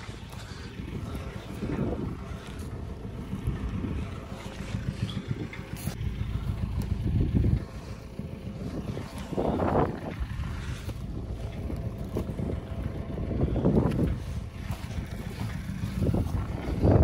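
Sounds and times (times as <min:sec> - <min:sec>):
vehicle engine rumbling: 0:00.0 - 0:17.0
wind buffeting microphone: 0:00.0 - 0:17.0.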